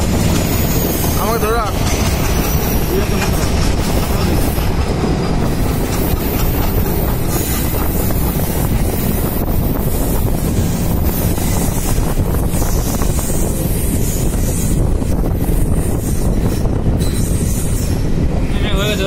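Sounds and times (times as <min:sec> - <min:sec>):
air rushing past carriage: 0:00.0 - 0:18.8
train wheels rumbling on rails: 0:00.0 - 0:19.0.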